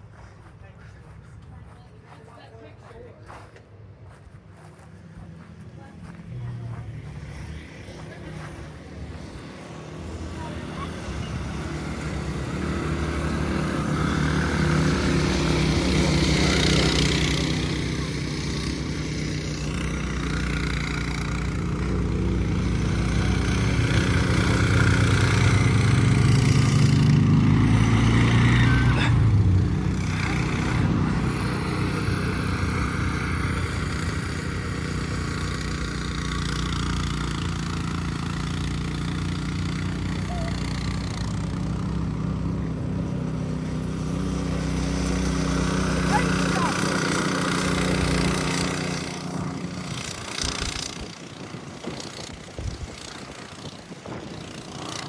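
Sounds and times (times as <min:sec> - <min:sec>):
off-road vehicle engines running: 0:00.0 - 0:55.0.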